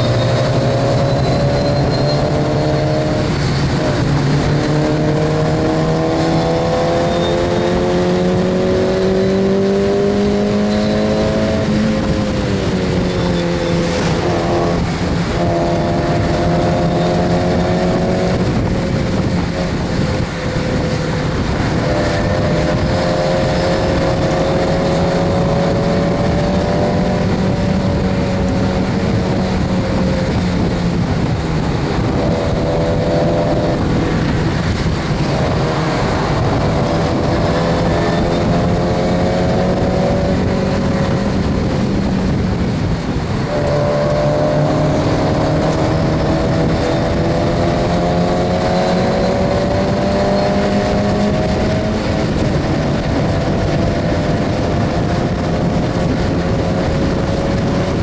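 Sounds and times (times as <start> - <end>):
car engine at race pace: 0.0 - 58.0
wind and road noise: 0.0 - 58.0.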